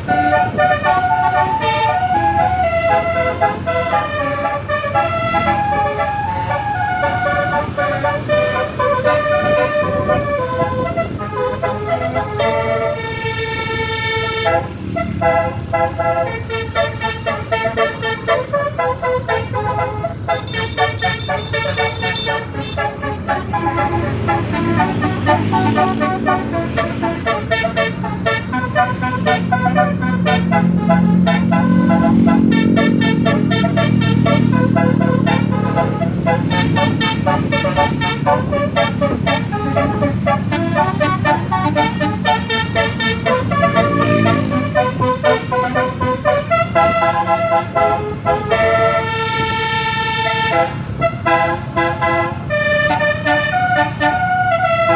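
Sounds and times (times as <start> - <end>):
bus engine rumbling: 0.0 - 54.9
musical bus horn playing a tune: 0.0 - 54.9.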